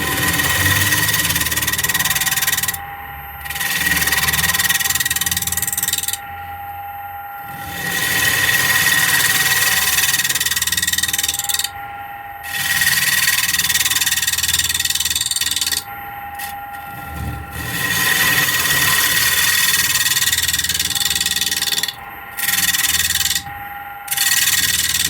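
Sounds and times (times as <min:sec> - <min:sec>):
lathe humming: 0:00.0 - 0:25.0.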